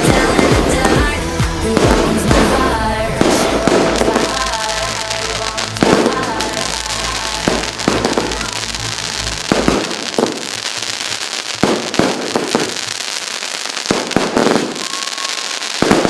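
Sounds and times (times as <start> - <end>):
crackle and hiss of fireworks: 0.0 - 16.0
firework bangs: 0.0 - 16.0.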